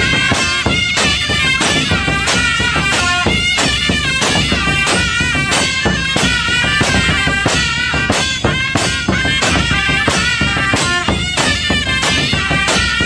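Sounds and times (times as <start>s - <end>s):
quick drum beat: 0.0s - 13.0s
reedy wind instrument melody: 0.0s - 13.0s.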